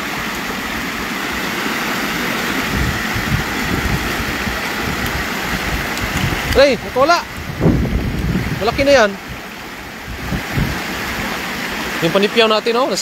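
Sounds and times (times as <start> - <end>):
low rumbling: 0.0 - 12.1
water pouring into channel: 0.0 - 13.0.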